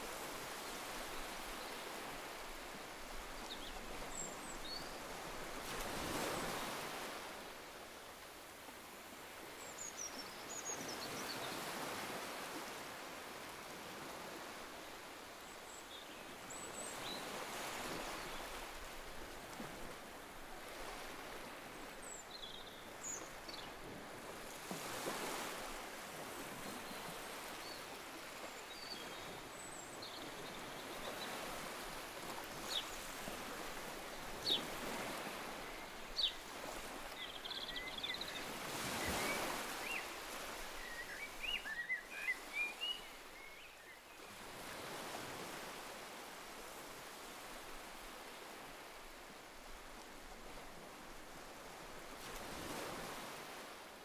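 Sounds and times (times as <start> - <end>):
ocean waves washing ashore: 0.0 - 43.4, 44.2 - 54.0.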